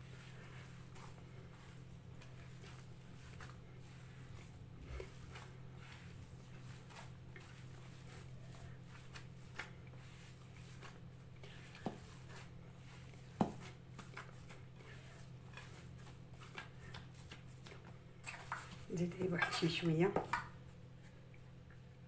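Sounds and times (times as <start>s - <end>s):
hands mixing dough: 0.0s - 22.0s.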